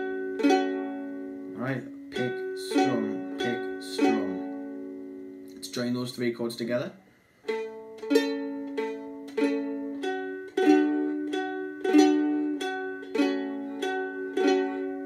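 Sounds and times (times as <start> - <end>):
ukulele picking and strumming: 0.0 - 5.8, 7.5 - 15.0.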